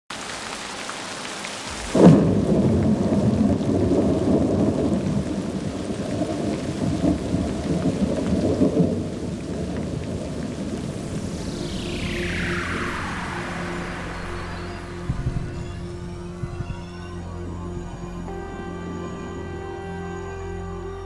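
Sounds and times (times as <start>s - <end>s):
rain hiss: 0.1s - 19.2s.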